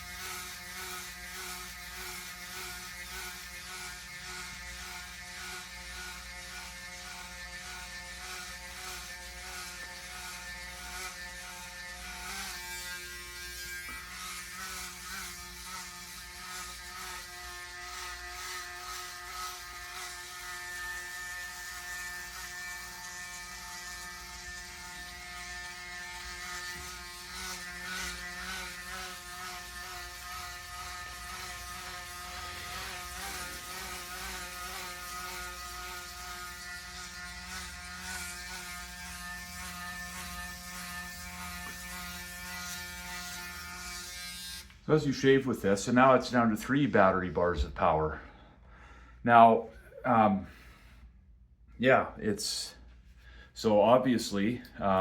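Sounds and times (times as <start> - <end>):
electric shaver buzzing: 0.0 - 48.0.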